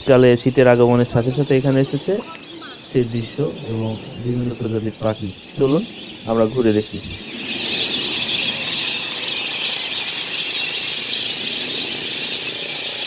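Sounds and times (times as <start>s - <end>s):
flock of birds calling: 0.0s - 13.0s.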